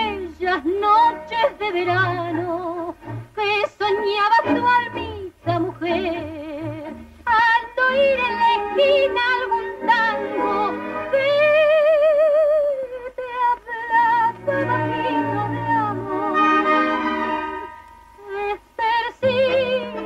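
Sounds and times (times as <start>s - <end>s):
tango orchestra playing: 0.0s - 11.6s, 14.0s - 18.6s
woman singing with vibrato: 0.0s - 20.0s.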